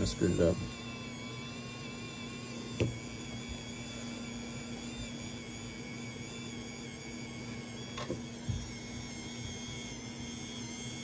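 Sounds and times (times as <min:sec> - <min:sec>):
background hum: 0:00.0 - 0:11.0
high steady tones: 0:00.0 - 0:11.0.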